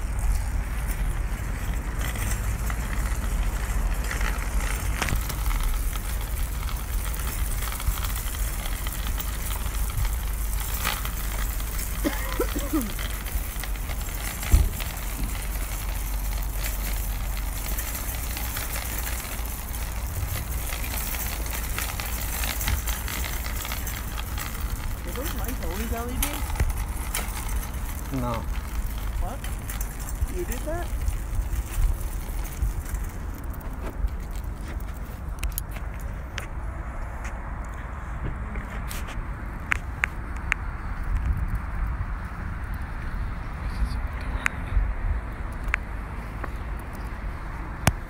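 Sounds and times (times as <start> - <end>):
phone microphone rumble and crackling: 0.0 - 48.0.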